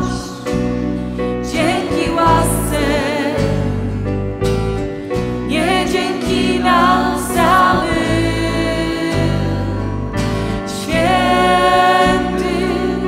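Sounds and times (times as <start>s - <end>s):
choir singing with accompaniment: 0.0s - 13.0s.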